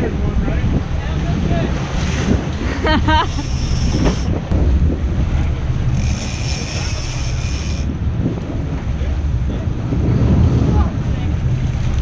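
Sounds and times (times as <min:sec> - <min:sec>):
boat engines rumbling: 0:00.0 - 0:12.0
water churning: 0:00.0 - 0:12.0
wind buffeting microphone: 0:00.0 - 0:12.0.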